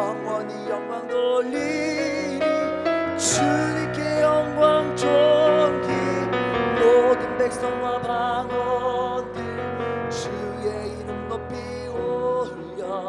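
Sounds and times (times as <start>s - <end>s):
keyboard accompaniment: 0.0s - 13.0s
person singing worship song: 0.0s - 13.0s.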